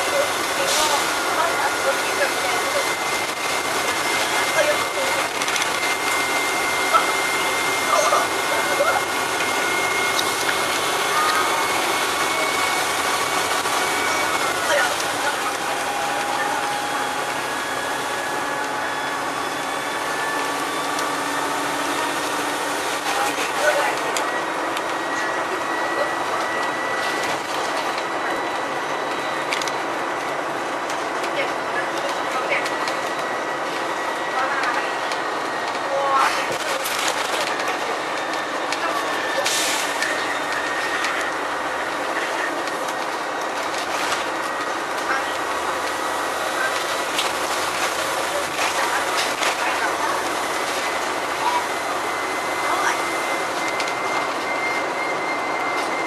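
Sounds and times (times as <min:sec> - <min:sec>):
bus engine and road drone: 0:00.0 - 0:56.0
thin steady whine: 0:01.2 - 0:56.0.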